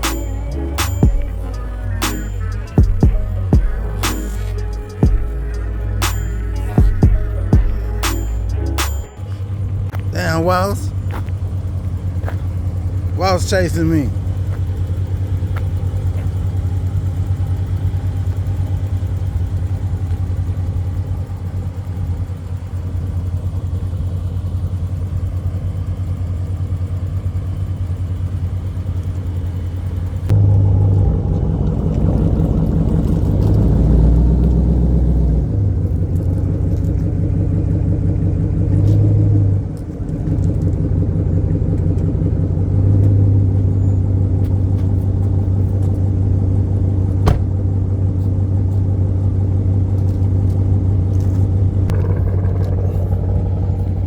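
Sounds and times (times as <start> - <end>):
muscle car engine rumbling: 0.0 - 54.0.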